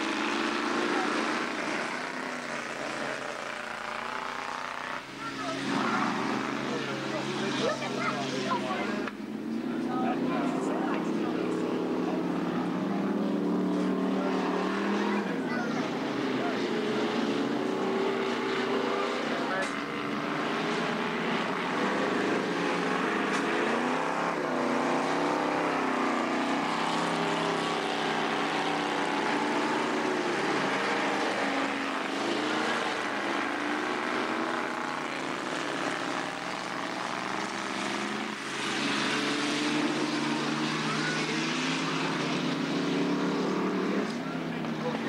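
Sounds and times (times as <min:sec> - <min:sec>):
race car engines: 0:00.0 - 0:45.0.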